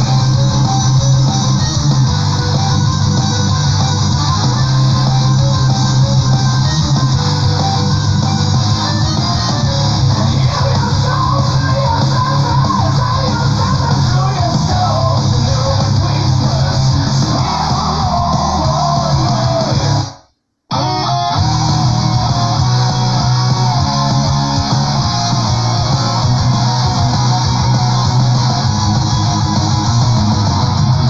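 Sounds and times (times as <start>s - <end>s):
metal music electric guitars: 0.0s - 31.0s.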